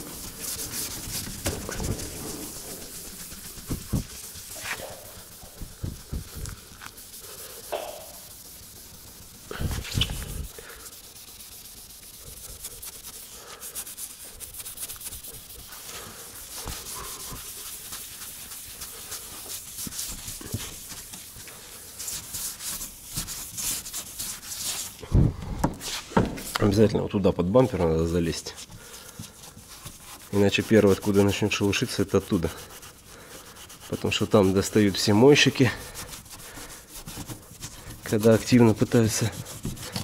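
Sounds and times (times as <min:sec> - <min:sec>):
scuff pad rubbing car paint: 0:00.0 - 0:25.0, 0:27.7 - 0:40.0.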